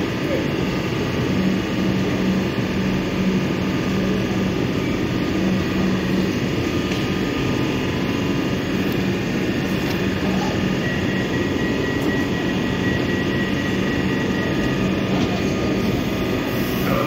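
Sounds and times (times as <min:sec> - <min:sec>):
electric train drone: 0:00.0 - 0:17.0
pulsing low hum: 0:00.0 - 0:17.0.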